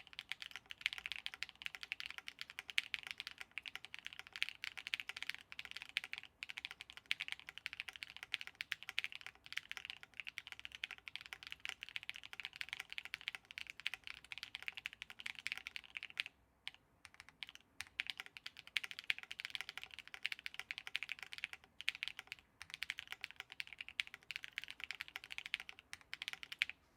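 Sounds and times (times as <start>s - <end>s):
fast typing on mechanical keyboard: 0.0s - 16.3s, 17.0s - 26.8s.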